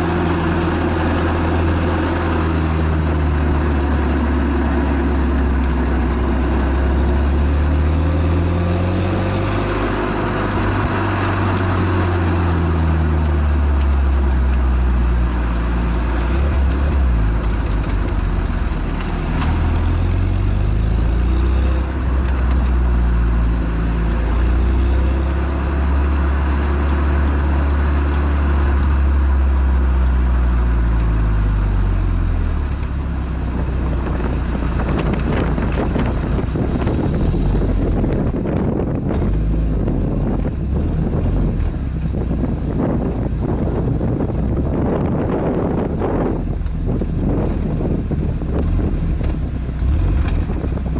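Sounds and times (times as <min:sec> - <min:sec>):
car exhaust accelerating hard: 0:00.0 - 0:50.9.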